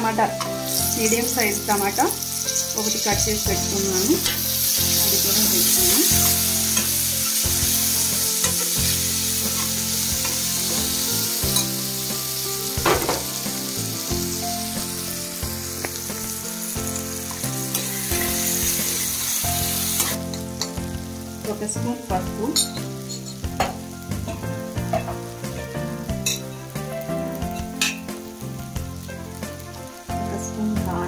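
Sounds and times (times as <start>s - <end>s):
food sizzling in hot oil: 0.0s - 31.0s.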